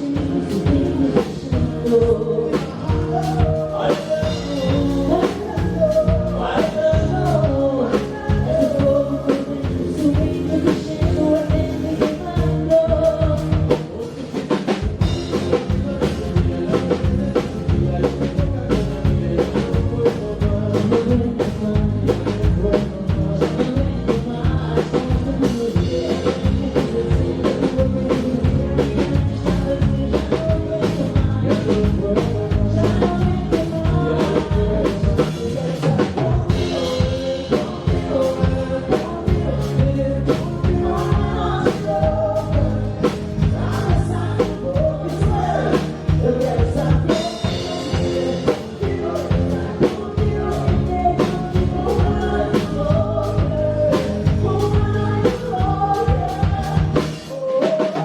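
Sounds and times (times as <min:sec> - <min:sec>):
drum kit beat: 0:00.0 - 0:58.0
live band playing: 0:00.0 - 0:58.0
person singing: 0:00.0 - 0:58.0.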